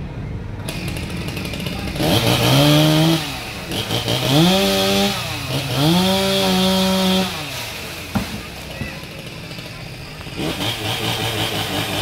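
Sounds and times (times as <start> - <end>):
chainsaw revving: 0.6 - 12.0.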